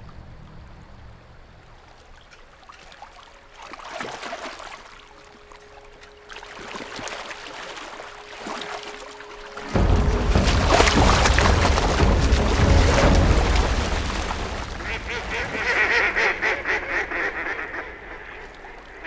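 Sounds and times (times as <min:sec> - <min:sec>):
water rippling and splashing: 0:00.0 - 0:19.0.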